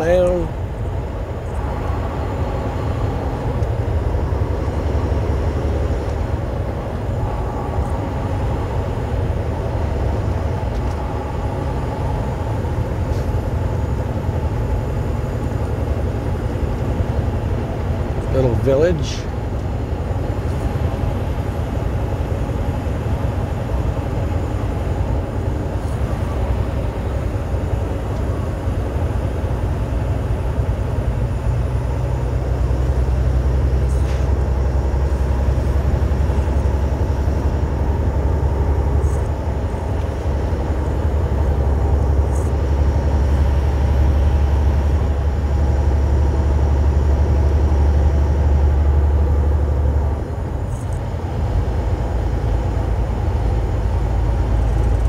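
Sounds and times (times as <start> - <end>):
truck engine and tyres droning: 0.0 - 55.0.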